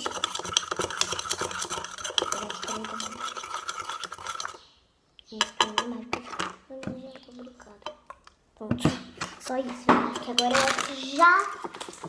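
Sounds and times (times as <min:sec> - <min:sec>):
spoon stirring thick glue in pot: 0:00.0 - 0:12.0.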